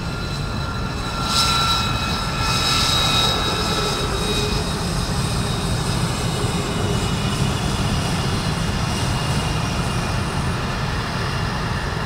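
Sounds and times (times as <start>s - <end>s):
high turbine whine: 0.0s - 12.0s
jet engines rumbling: 0.0s - 12.0s.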